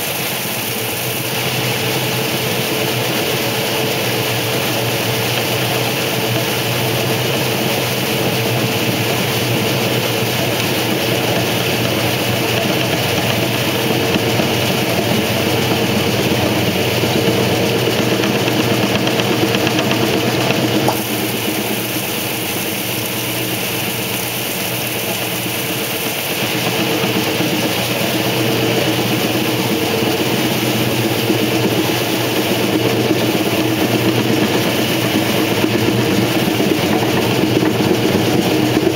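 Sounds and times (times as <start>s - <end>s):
washing machine spinning hum: 0.0s - 38.9s.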